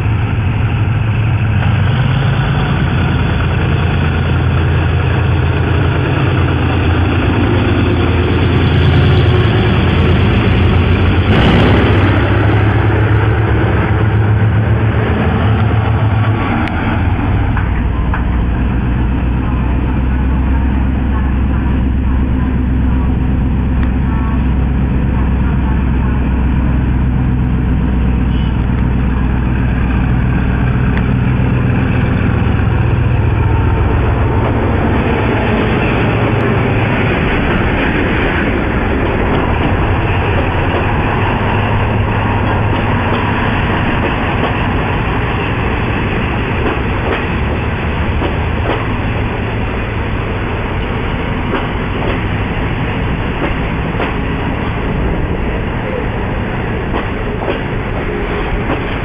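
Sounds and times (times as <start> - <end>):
diesel locomotive engines droning: 0.0 - 59.0
train coaches rattling on rails: 0.0 - 59.0.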